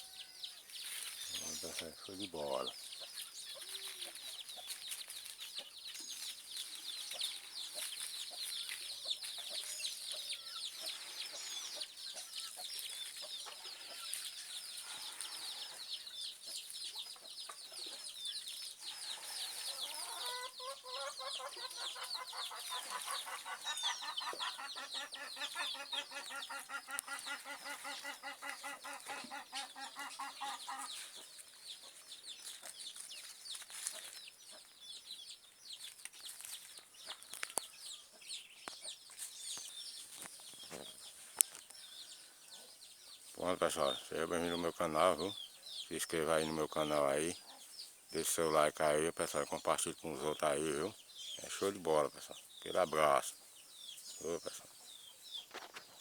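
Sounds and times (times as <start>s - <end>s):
birds calling and chattering: 0.0s - 56.0s.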